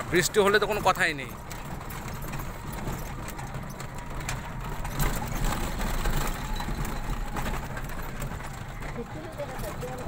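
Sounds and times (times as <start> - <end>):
rattles and knocks: 0.0 - 10.0
vehicle engine running: 0.0 - 10.0.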